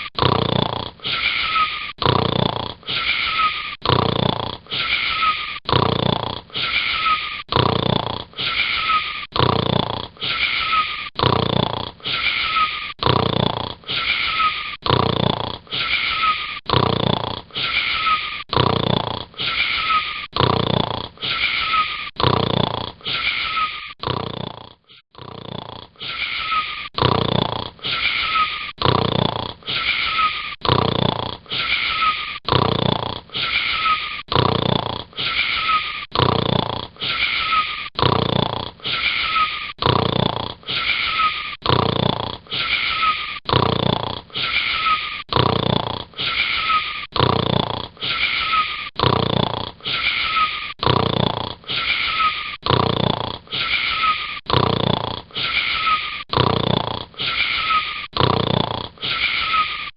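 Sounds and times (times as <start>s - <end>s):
wheezy snoring: 0.0s - 59.9s.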